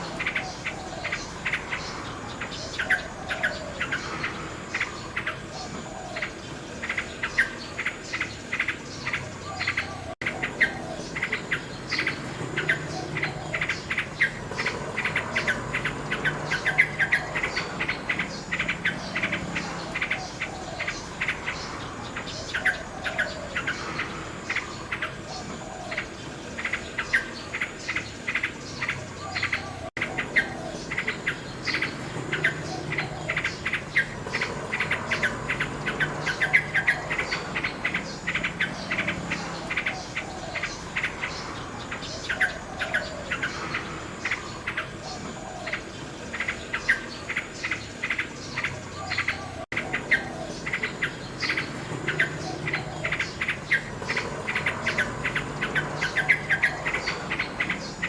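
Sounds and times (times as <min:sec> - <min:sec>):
insects chirping faintly: 0:00.0 - 0:58.0
nightingale singing: 0:00.0 - 0:58.0.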